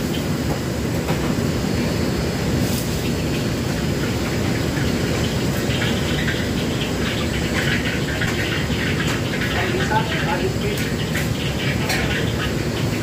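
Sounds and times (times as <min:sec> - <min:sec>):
burner and extractor hood roar: 0:00.0 - 0:13.0
wok hissing and sizzling: 0:00.0 - 0:13.0.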